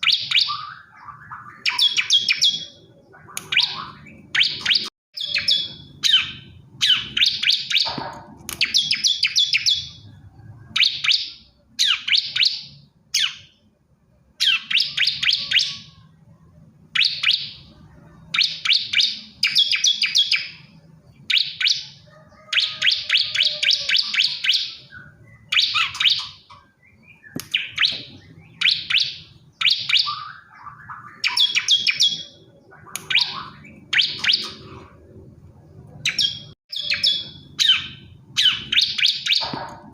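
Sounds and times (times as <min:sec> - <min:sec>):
bird high chirping song: 0:00.0 - 0:39.9.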